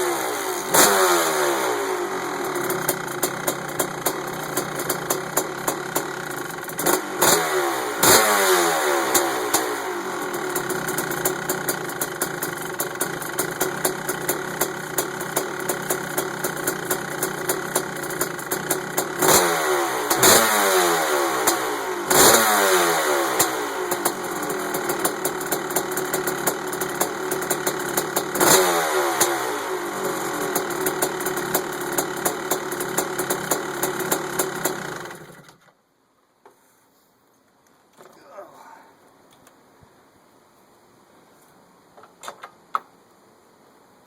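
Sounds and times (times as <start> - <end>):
motorcycle engine idling and revving: 0.0 - 35.6.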